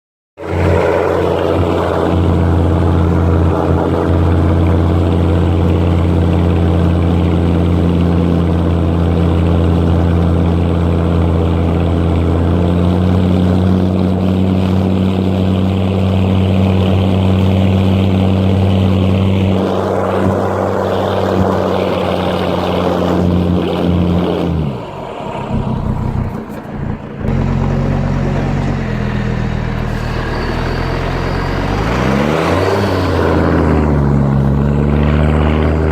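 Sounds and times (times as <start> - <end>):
car engine running under load: 0.4 - 35.9.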